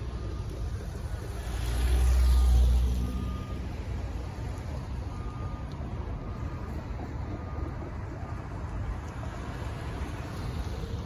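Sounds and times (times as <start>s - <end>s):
steady traffic noise: 0.0s - 11.0s.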